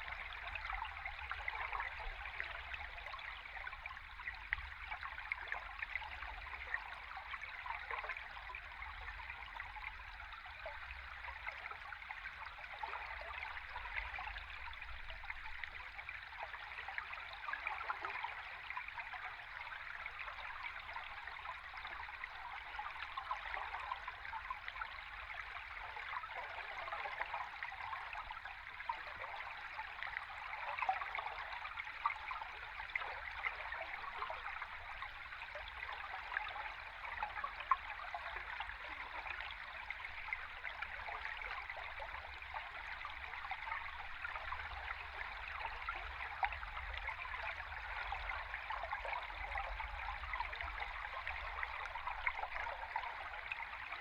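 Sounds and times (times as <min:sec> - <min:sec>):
underwater flowing water: 0:00.0 - 0:54.0.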